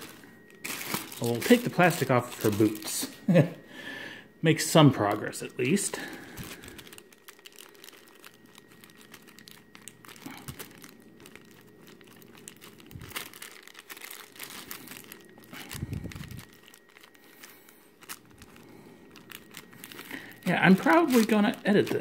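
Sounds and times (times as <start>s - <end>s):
plastic wrapping crinkling: 0.0s - 3.6s, 4.7s - 22.0s.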